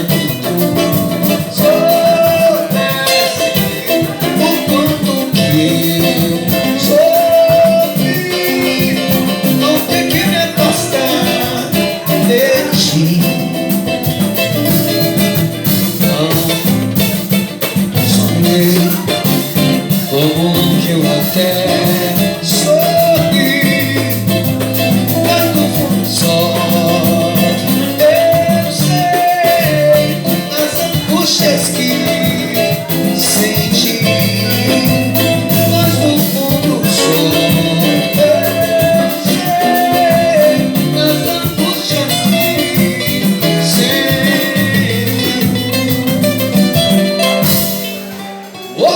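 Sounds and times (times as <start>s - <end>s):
live band playing romantic song: 0.0s - 48.9s
person singing: 0.0s - 48.9s.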